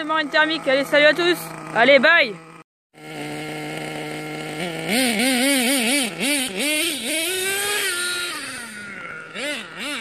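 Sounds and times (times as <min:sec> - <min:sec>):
small two-stroke engine revving: 0:00.0 - 0:10.0.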